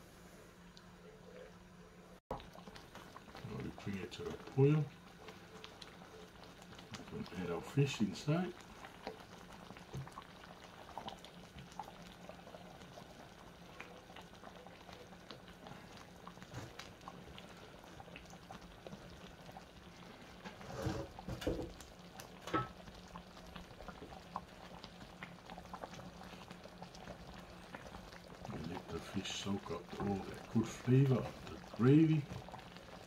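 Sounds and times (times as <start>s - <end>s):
gravy bubbling in frying pan: 2.3s - 33.0s.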